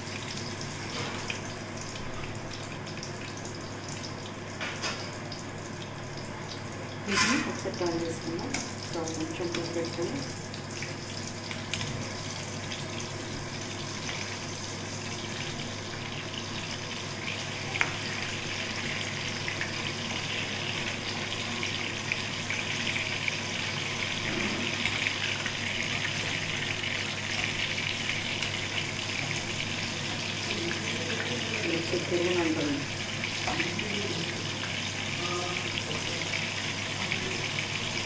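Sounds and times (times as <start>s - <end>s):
battered chillies frying in oil: 0.0s - 38.0s.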